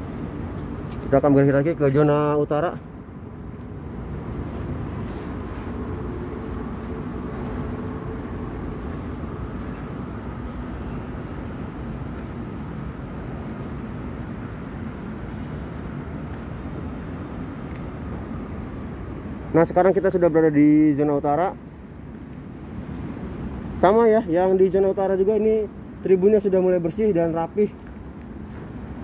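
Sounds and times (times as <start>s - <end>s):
background rumble and hiss: 0.0s - 29.0s.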